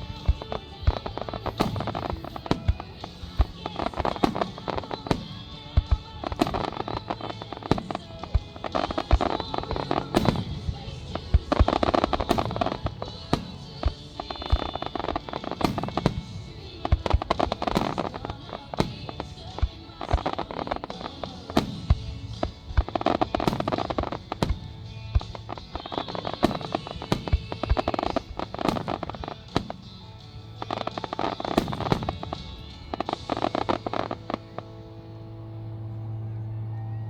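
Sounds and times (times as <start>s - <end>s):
fireworks bangs and pops: 0.0s - 34.6s
music: 0.0s - 37.0s.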